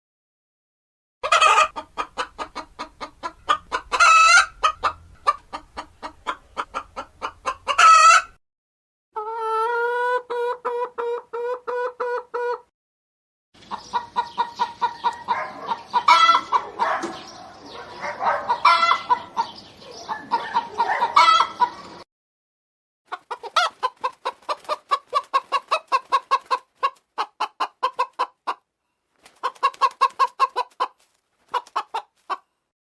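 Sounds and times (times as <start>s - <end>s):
hen clucking: 1.2s - 8.4s, 9.2s - 12.7s, 13.6s - 22.0s, 23.1s - 28.7s, 29.3s - 32.5s.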